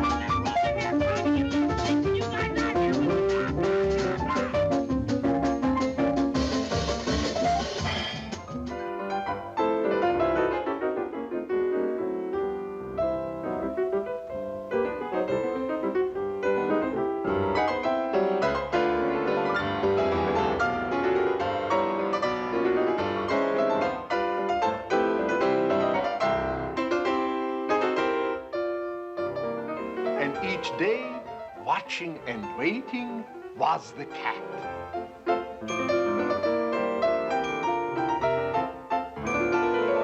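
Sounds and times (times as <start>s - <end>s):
cartoon piano music: 0.0s - 40.0s.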